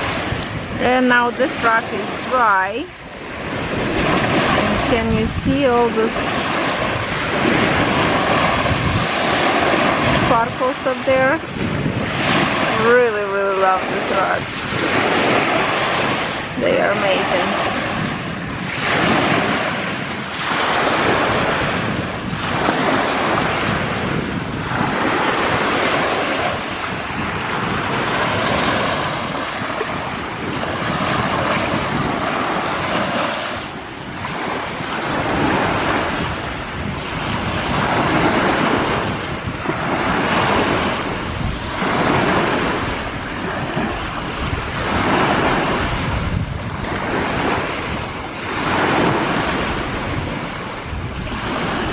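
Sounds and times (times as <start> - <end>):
waves washing onto shore: 0.0 - 51.9
wind rumbling on microphone: 0.0 - 51.9.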